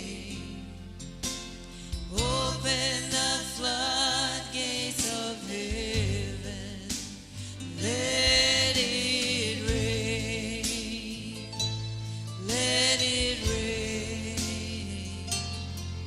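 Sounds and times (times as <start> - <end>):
person singing with vibrato: 0.0 - 1.0, 1.7 - 16.0
band playing bass and drums: 1.0 - 16.0.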